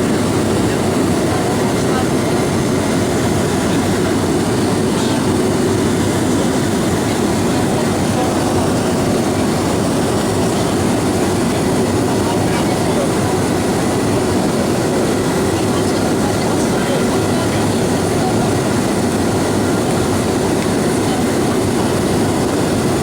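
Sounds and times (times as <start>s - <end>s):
airliner cabin engine noise: 0.0s - 23.0s.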